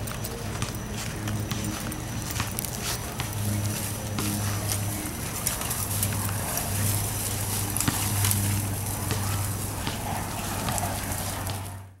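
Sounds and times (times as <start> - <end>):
leaves and twigs crackling: 0.0 - 12.0
steady low hum: 0.0 - 12.0.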